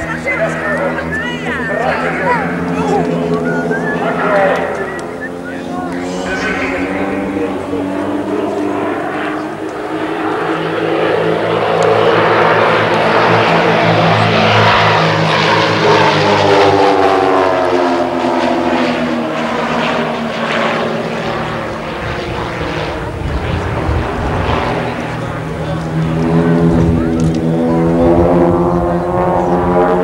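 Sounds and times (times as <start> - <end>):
propeller planes flying by: 0.0 - 30.0.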